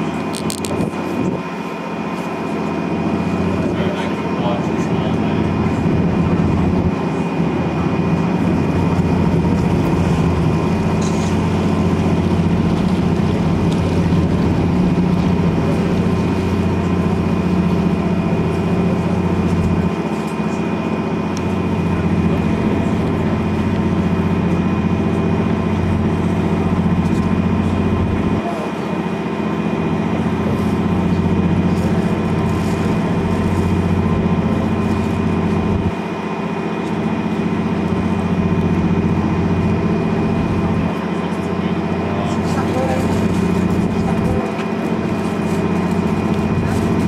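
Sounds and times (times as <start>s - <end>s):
boat engine low drone: 0.0s - 47.0s.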